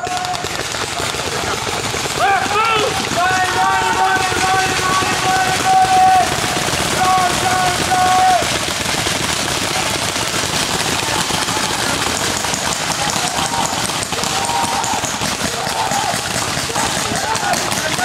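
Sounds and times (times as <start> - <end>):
paintball guns firing: 0.0 - 18.0.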